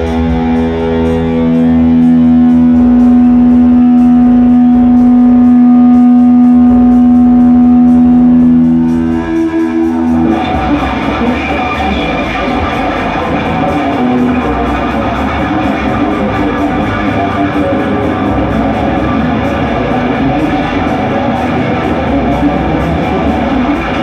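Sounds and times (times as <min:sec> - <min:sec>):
distorted electric guitar: 0:00.0 - 0:24.0
live rock music: 0:00.0 - 0:24.0.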